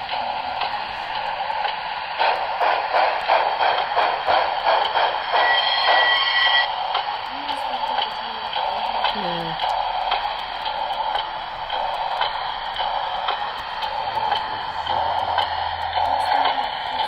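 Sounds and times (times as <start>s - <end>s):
model train wheels whirring: 0.0s - 17.0s.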